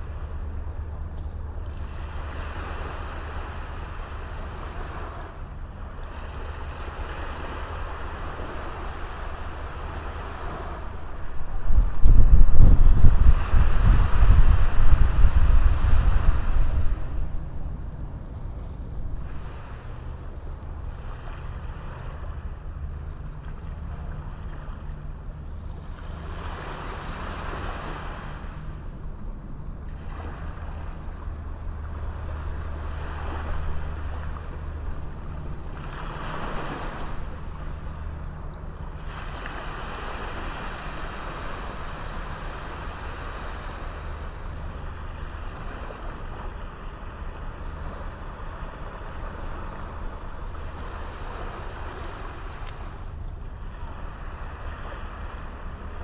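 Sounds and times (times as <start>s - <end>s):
small waves washing onto beach: 0.0s - 56.0s
steady low rumble: 0.0s - 56.0s.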